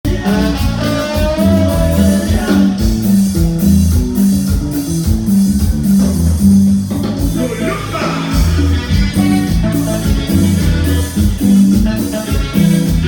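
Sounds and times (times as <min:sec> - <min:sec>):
bass guitar line: 0:00.0 - 0:13.0
drum beat: 0:00.0 - 0:13.0
guitar: 0:00.0 - 0:13.0.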